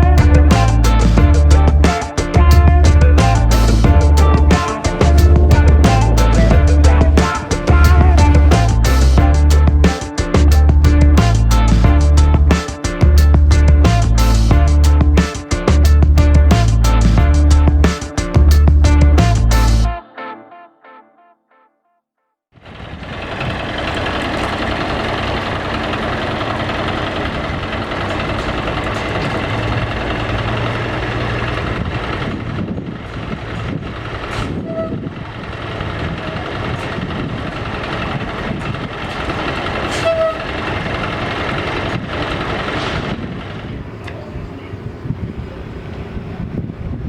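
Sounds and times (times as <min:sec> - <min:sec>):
heavy diesel trucks running: 0:00.0 - 0:19.9, 0:22.6 - 0:47.0.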